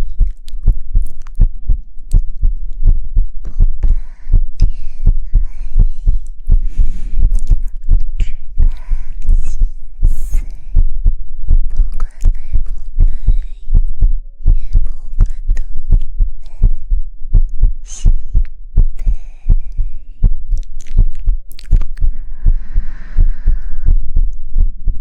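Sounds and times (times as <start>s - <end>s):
soft low thumps: 0.0s - 25.0s.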